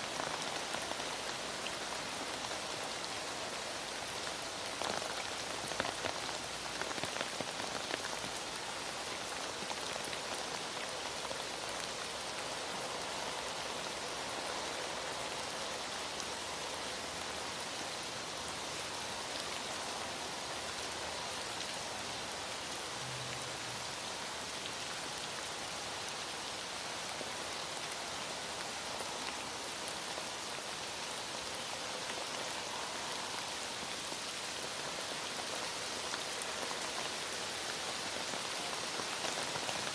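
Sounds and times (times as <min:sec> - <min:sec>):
heavy rain hissing: 0:00.0 - 0:39.9
sharp rain ticks: 0:00.0 - 0:39.9.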